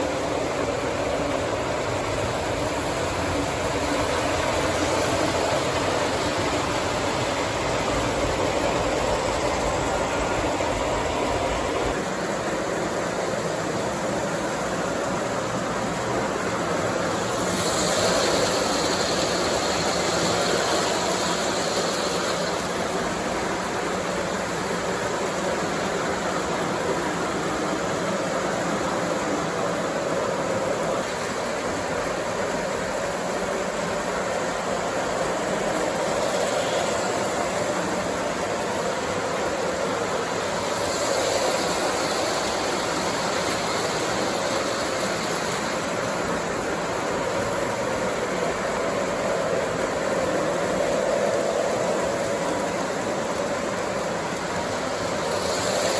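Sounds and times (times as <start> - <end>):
bright hiss: 0.0 - 55.9
model trains rolling hum: 0.0 - 55.9.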